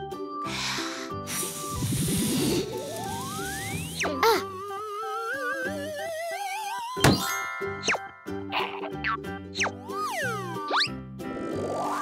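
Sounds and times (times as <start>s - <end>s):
cartoon music with bouncy bass: 1.4s - 12.0s.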